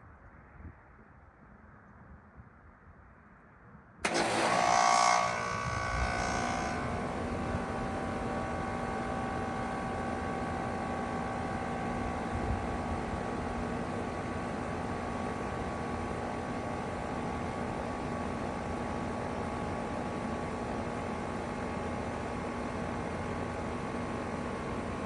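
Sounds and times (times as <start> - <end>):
heat pump humming and whining: 4.0 - 25.0.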